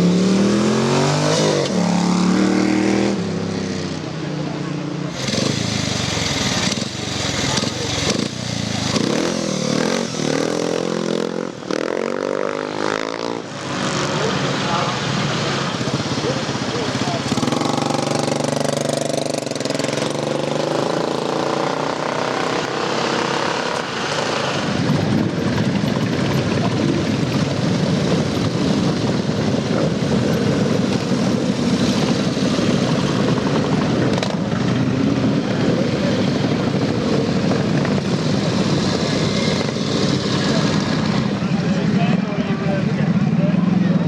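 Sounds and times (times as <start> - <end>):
motorcycle engine running: 5.1 - 12.2, 14.0 - 44.0.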